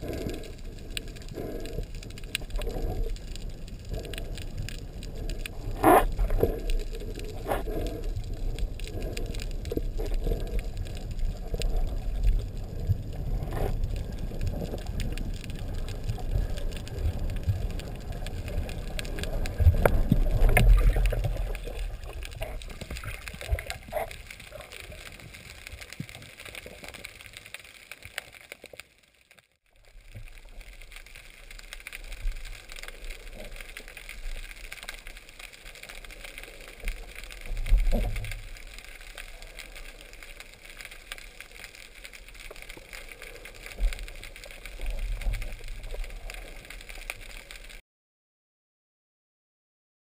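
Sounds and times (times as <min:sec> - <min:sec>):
underwater watery hiss and rumble: 0:00.0 - 0:28.8, 0:29.8 - 0:47.8.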